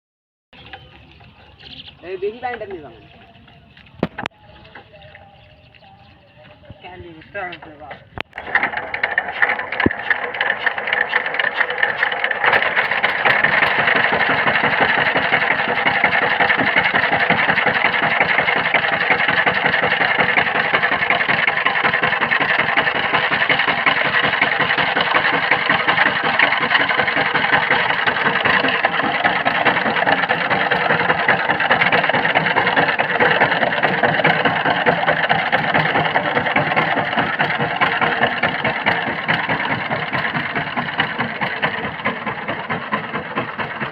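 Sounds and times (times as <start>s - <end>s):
power tiller engine chugging: 0.6s - 43.9s.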